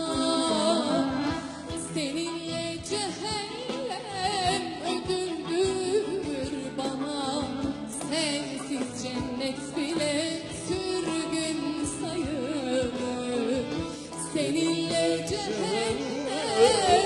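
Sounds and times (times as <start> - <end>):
instrumental ensemble: 0.0 - 17.0
woman singing folk song: 0.0 - 17.0.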